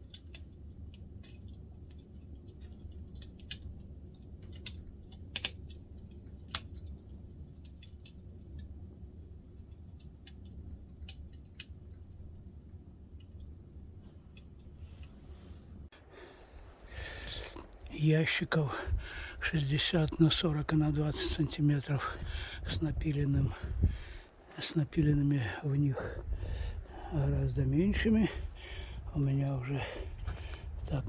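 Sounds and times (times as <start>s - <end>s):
low fire rumble: 0.0s - 31.0s
wood fire crackling and popping: 0.0s - 31.0s.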